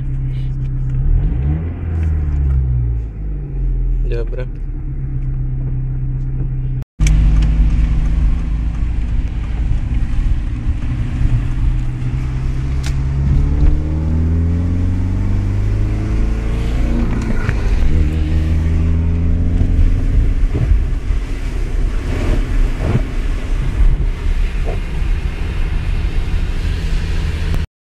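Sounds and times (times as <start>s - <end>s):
car engine from inside cabin: 0.0s - 27.6s.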